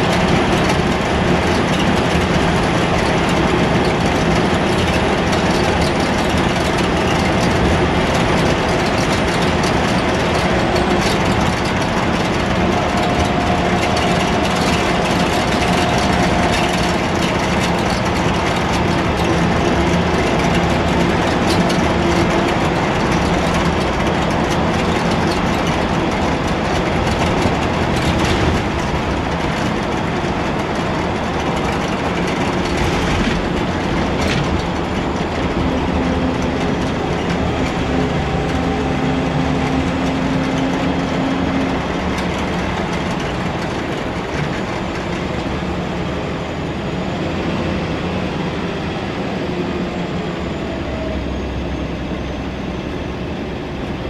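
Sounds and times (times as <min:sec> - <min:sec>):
bus engine rumble: 0:00.0 - 0:54.0.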